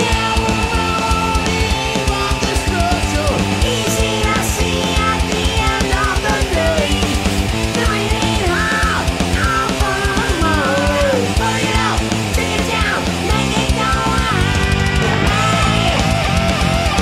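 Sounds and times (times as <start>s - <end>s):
bass guitar: 0.0s - 17.0s
distorted guitars: 0.0s - 17.0s
lead guitar line bending pitch: 0.0s - 17.0s.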